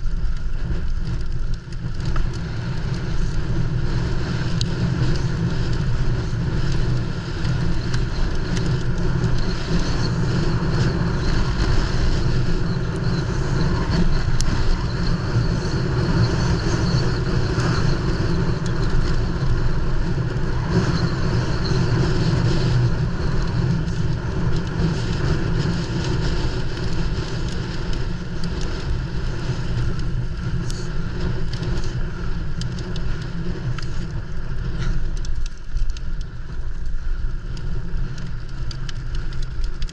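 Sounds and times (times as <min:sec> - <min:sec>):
bike clicks and rattles: 0:00.0 - 0:39.9
wind rush: 0:00.0 - 0:39.9.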